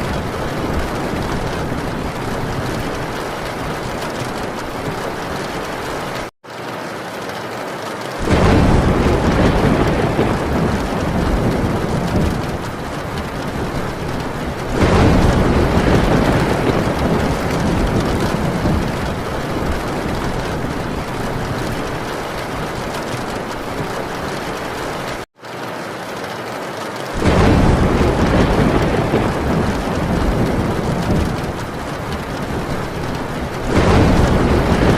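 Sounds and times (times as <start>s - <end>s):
thunder rolling: 0.0s - 6.3s, 8.2s - 25.2s, 27.2s - 34.9s
heavy rain on a tin roof: 0.0s - 34.9s.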